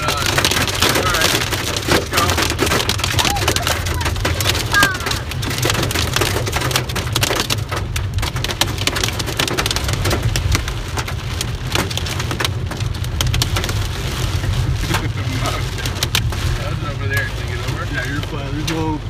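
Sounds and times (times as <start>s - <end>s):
car driving rumble: 0.0s - 19.0s
hail pelting a car roof: 0.0s - 19.0s.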